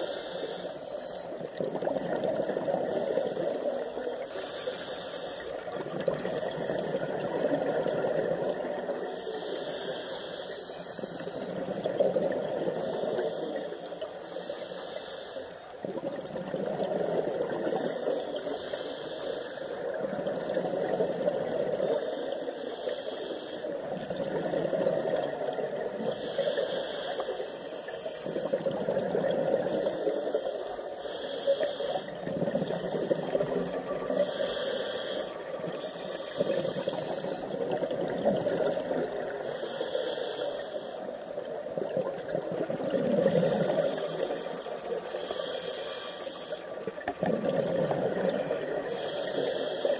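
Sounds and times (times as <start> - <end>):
regulator inhale hiss: 0.0 - 1.6, 2.6 - 8.3, 8.9 - 16.0, 17.5 - 24.0, 24.7 - 41.6, 43.1 - 47.1, 47.7 - 49.9
exhaled air bubbling: 0.0 - 49.9.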